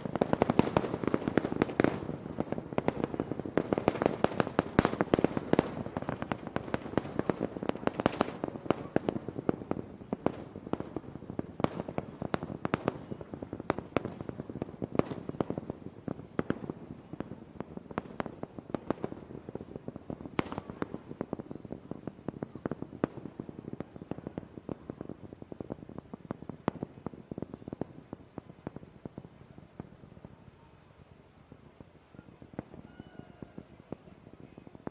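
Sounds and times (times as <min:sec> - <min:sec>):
rocket exhaust crackling: 0:00.0 - 0:34.9.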